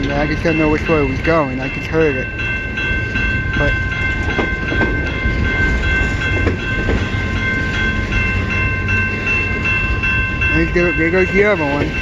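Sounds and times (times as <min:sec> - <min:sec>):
train wheels rumbling on rail: 0:00.0 - 0:12.0
pulsing high ringing tone: 0:00.1 - 0:12.0.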